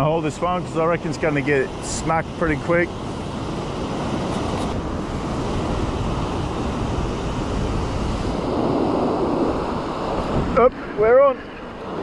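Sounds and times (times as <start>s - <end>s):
ocean surf breaking: 0.0s - 12.0s
wind rumbling on microphone: 0.0s - 12.0s.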